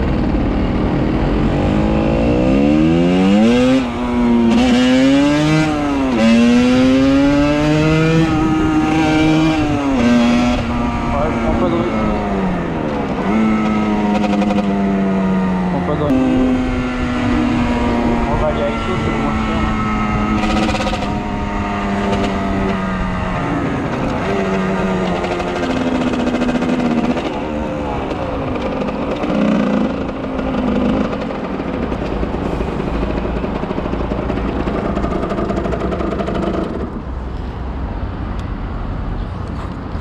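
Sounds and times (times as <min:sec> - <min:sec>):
motorbike engines revving: 0:00.0 - 0:38.4.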